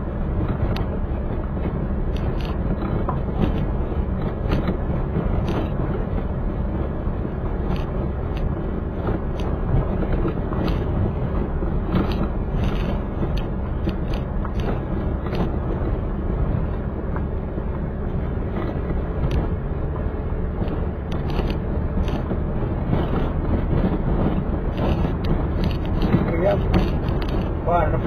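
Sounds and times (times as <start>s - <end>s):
car engine and tyres rumbling: 0.0s - 28.0s
gravel clicking and knocking: 0.4s - 28.0s.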